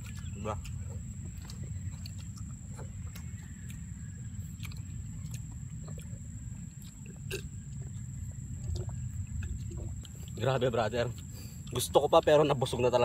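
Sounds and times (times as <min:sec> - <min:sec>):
chewing and lip-smacking: 0:00.0 - 0:12.8
low steady rumble: 0:00.0 - 0:13.0.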